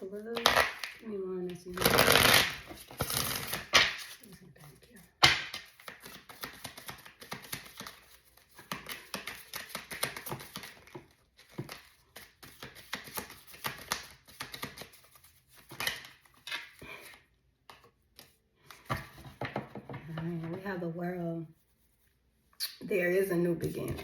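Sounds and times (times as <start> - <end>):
cards being shuffled: 0.2 - 19.6.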